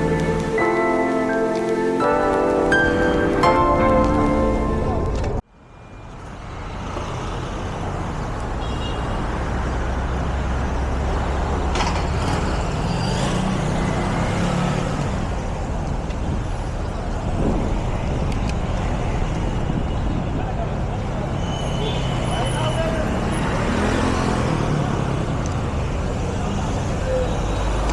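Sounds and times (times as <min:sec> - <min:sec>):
cars passing: 0:00.0 - 0:27.9
low traffic rumble: 0:00.0 - 0:27.9.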